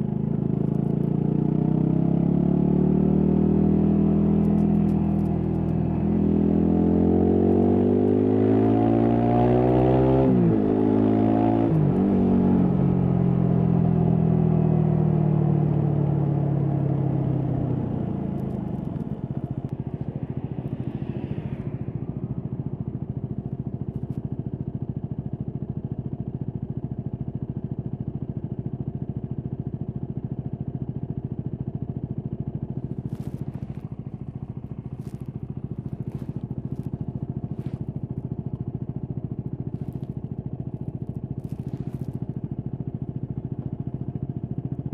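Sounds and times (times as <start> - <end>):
motorcycle engine shifting and idling: 0.0 - 7.5, 10.4 - 44.9.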